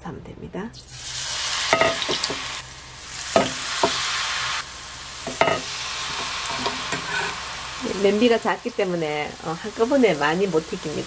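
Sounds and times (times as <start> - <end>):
batter sizzling in hot oil: 0.8 - 11.0.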